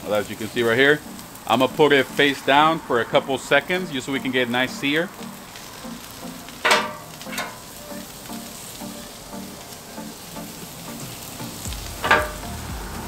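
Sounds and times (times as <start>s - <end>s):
bones sizzling on a griddle: 0.0s - 13.0s.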